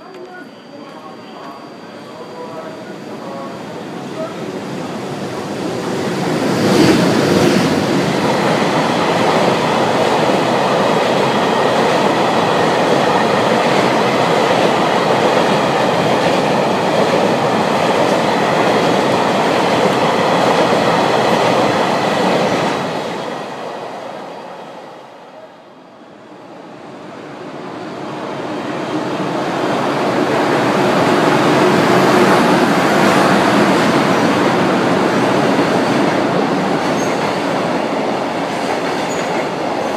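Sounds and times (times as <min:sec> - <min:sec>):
freight train passing: 0:00.0 - 0:39.9.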